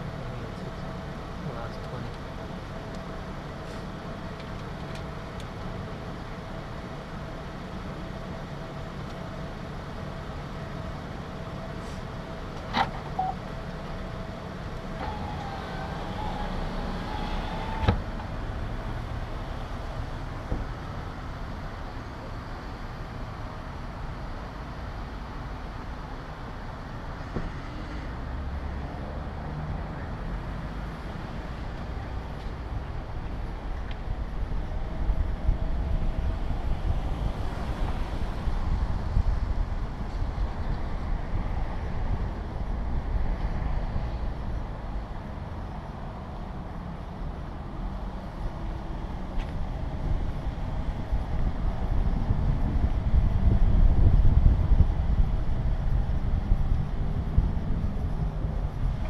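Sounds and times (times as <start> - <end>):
vehicle rumble and hum: 0.0 - 59.0.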